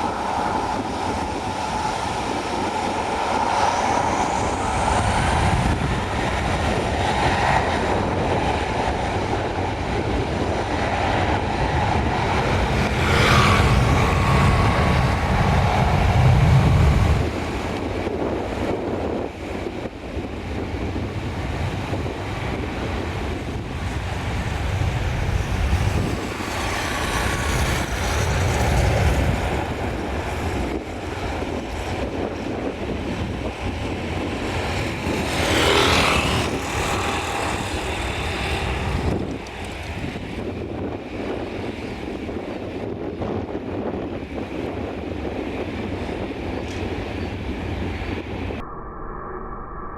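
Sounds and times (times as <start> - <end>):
jet engine noise: 0.0 - 49.9
wind buffeting microphone: 0.0 - 49.9.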